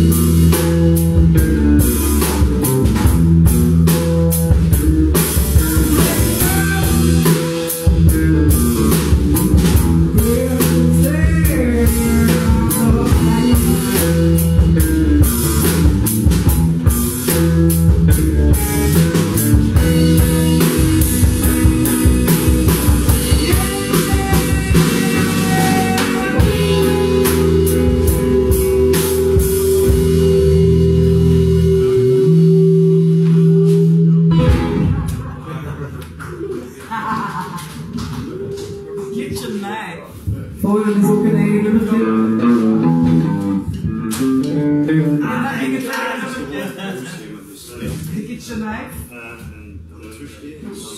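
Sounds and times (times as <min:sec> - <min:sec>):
electric guitar: 0:00.0 - 0:39.0, 0:40.7 - 0:46.0
live blues-rock band: 0:00.0 - 0:39.1, 0:40.6 - 0:46.0
drum kit: 0:00.0 - 0:46.2.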